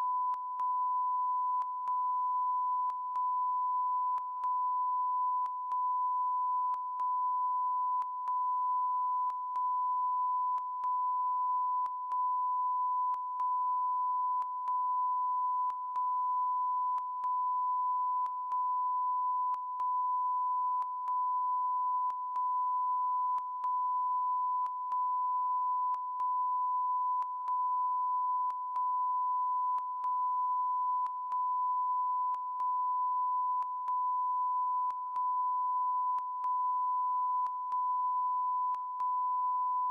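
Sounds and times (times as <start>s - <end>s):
steady electronic beep tone: 0.0s - 39.9s.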